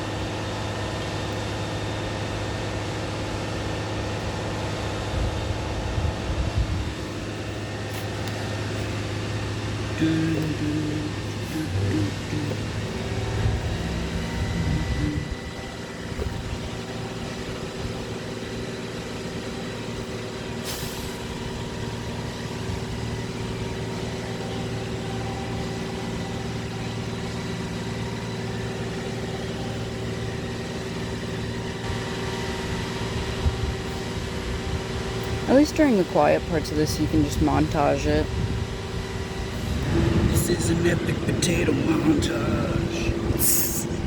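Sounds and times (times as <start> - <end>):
motor humming: 0.0 - 44.0.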